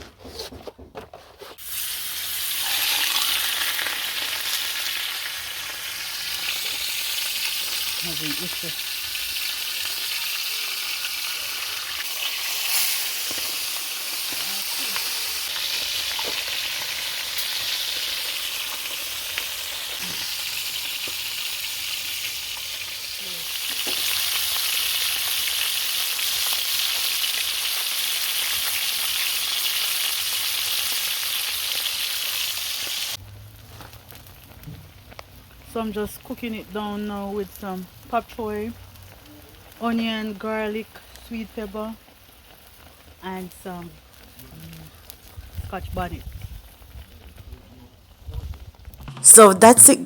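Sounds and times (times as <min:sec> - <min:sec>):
fish sizzling in a frying pan: 0:01.6 - 0:48.7.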